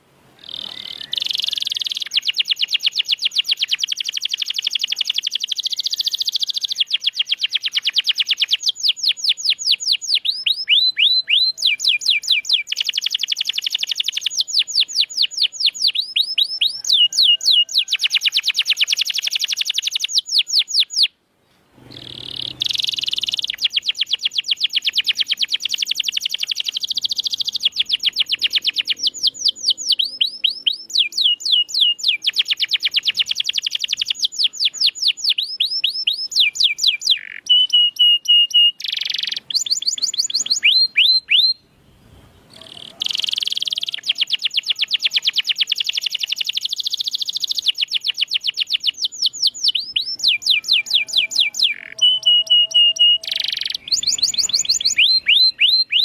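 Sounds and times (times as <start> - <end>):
canary singing: 0.4 - 21.2, 21.8 - 41.8, 42.4 - 56.0.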